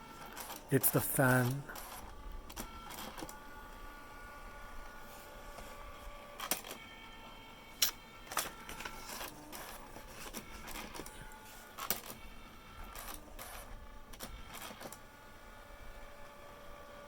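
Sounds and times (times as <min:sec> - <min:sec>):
faint motor whine: 0:00.0 - 0:17.0.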